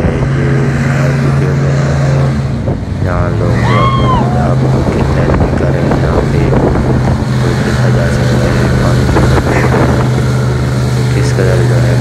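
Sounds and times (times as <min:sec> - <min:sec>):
airboat engine and propeller drone: 0:00.0 - 0:12.0.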